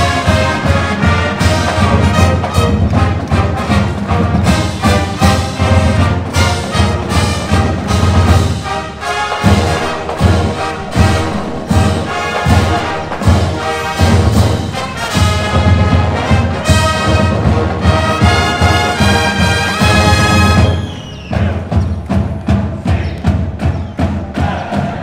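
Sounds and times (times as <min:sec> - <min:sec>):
marching band brass: 0:00.0 - 0:25.0.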